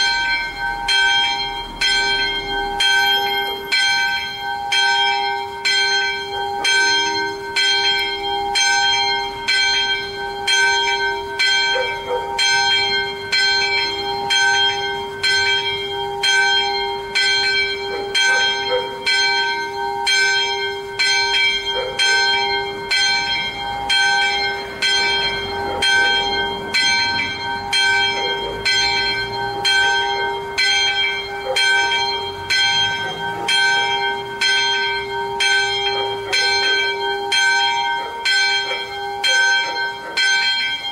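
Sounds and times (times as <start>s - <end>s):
small church bell ringing: 0.0s - 40.9s.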